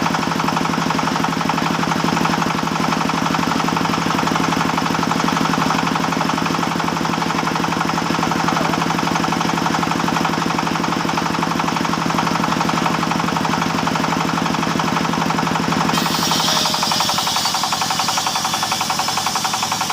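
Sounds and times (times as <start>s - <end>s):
chainsaw engine running: 0.0s - 19.9s.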